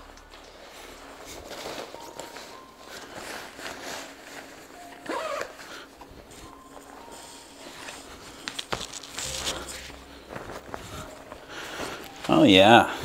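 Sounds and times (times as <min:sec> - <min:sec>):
fabric rustling and swishing: 0:00.0 - 0:13.0.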